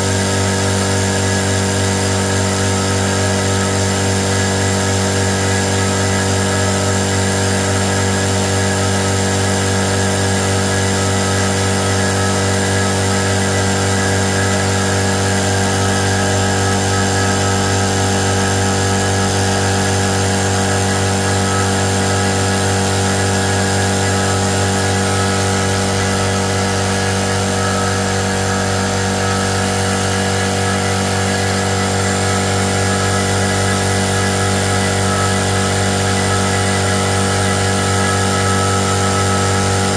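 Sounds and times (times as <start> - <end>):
motor hum and whine: 0.0 - 39.9.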